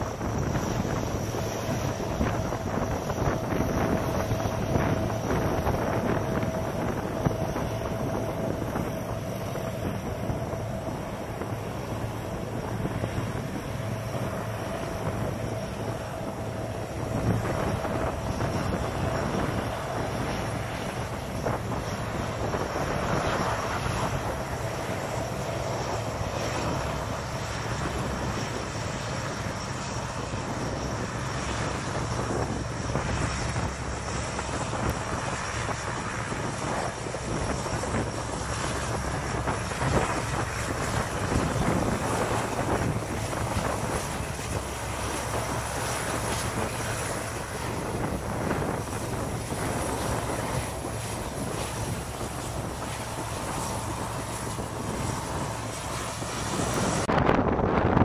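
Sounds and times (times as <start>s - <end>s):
distant turboprop engines droning: 0.0s - 58.0s
wind on microphone: 0.0s - 58.0s.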